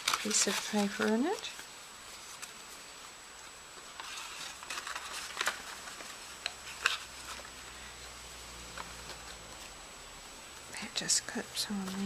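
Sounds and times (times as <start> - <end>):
paper rustling: 0.0 - 7.9, 8.6 - 9.8, 10.8 - 12.0.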